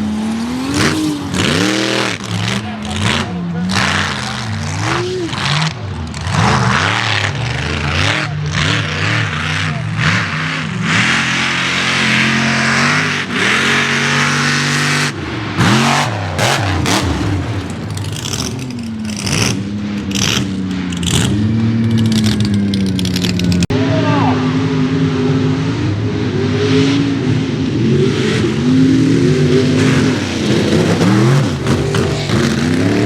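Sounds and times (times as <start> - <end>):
truck engines revving hard: 0.0 - 33.0.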